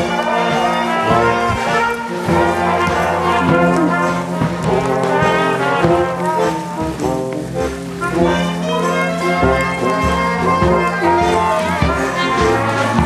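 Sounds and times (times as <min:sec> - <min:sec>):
brass band playing a march: 0:00.0 - 0:13.0.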